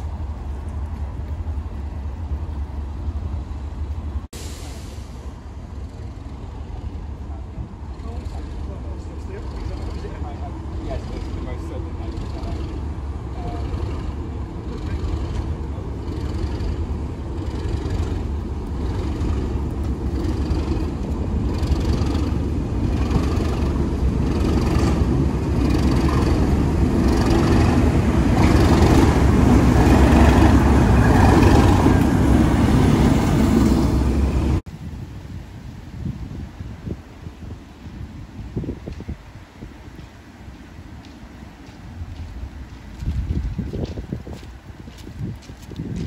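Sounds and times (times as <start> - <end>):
diesel locomotive engine rumble: 0.0 - 46.0.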